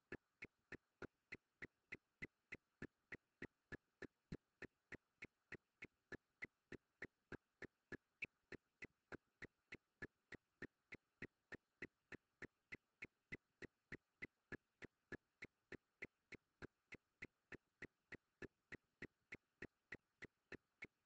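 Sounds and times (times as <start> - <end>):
faint ticks: 0.0 - 21.0.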